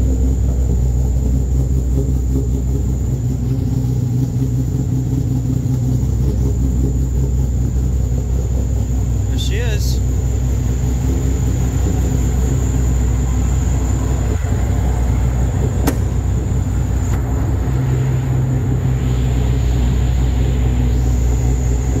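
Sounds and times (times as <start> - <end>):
low engine-like rumble: 0.0 - 22.0
low hum: 0.0 - 22.0.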